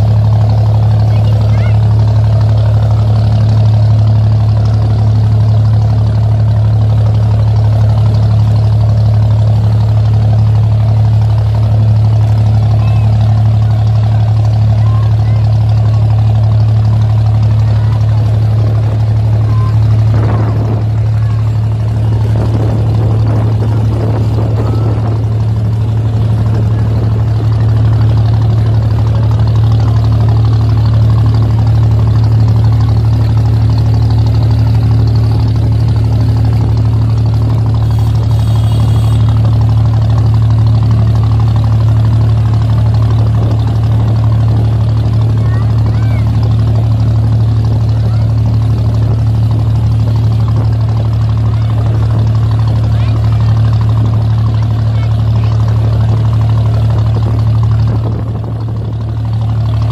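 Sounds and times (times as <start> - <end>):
boat diesel engine droning: 0.0 - 59.9
water churning: 0.0 - 59.9.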